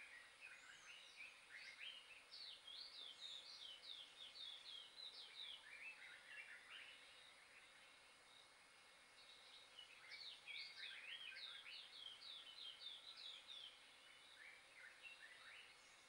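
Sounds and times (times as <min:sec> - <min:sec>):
faint whistled birdsong: 0:00.0 - 0:16.0.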